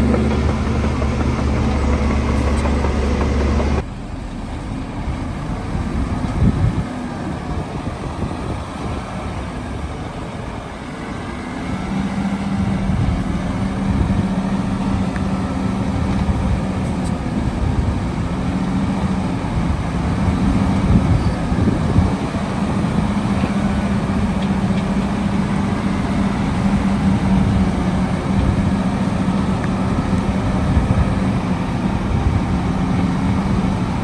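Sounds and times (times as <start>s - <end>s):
heavy diesel engine rumble: 0.0s - 34.0s.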